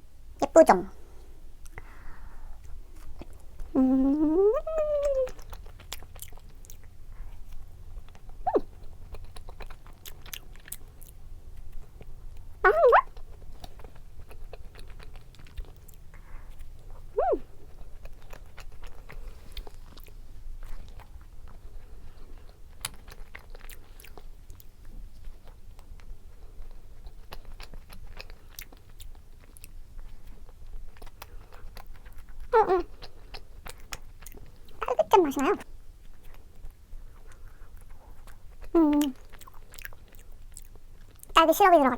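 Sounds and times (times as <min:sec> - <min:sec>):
chewing with mouth clicks: 0:02.5 - 0:03.8, 0:04.8 - 0:41.6.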